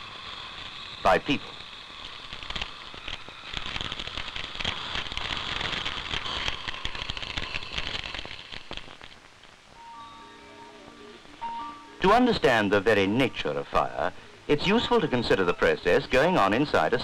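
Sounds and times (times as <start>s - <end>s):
fire crackling and popping: 0.0s - 10.0s, 10.9s - 17.0s.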